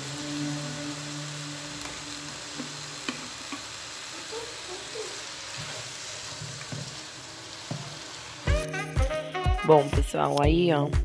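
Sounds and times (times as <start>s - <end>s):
stir-fry sizzling in pan: 0.0s - 10.8s.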